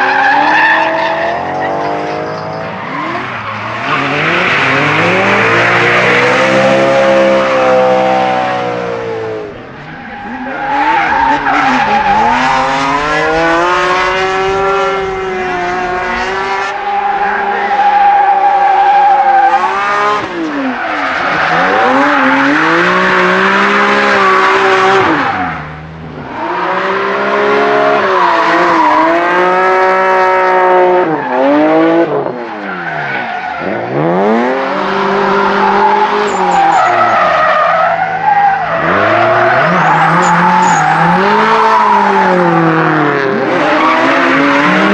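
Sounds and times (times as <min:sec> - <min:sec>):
car engines revving high: 0:00.0 - 0:44.9.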